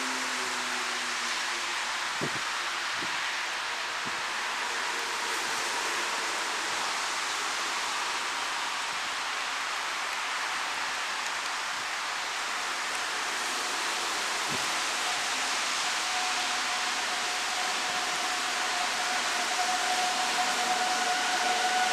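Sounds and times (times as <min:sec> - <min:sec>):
falling rain: 0:00.0 - 0:21.9.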